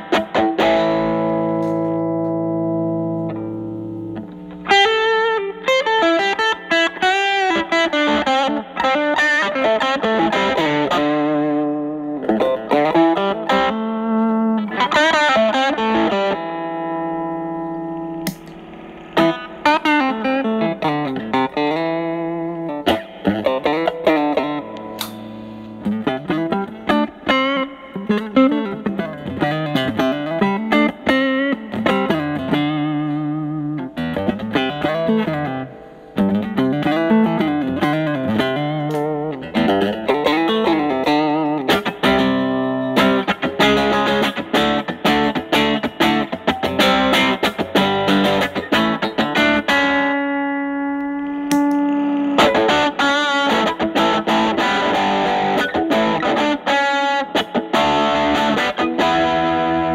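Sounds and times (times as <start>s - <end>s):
overdriven electric guitar: 0.0s - 59.9s.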